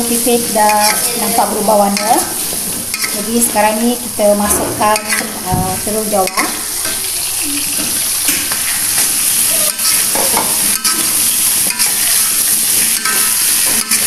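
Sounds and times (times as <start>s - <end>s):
eggplant sizzling in hot oil: 0.0s - 14.0s
spatula scraping and knocking wok: 0.0s - 14.0s.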